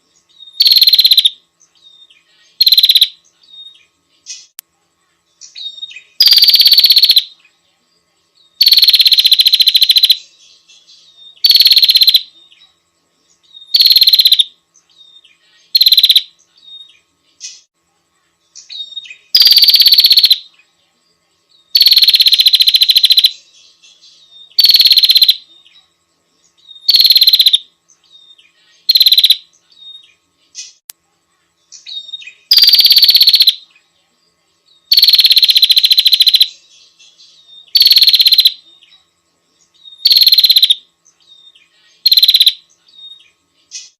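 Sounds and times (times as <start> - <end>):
bird buzzing rattle calls: 0.6 - 4.6, 5.4 - 7.4, 8.6 - 12.6, 13.4 - 17.7, 18.6 - 20.6, 21.7 - 25.8, 26.5 - 30.8, 31.7 - 33.7, 34.9 - 39.0, 39.6 - 43.9.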